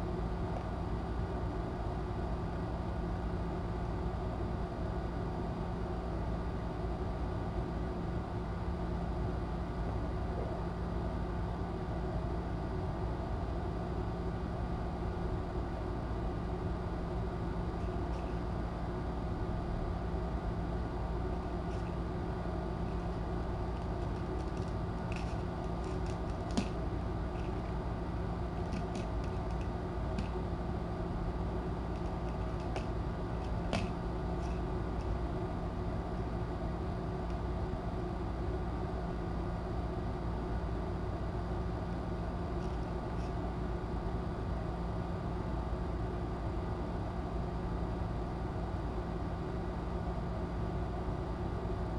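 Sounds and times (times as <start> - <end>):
room hum and hiss: 0.0 - 51.9.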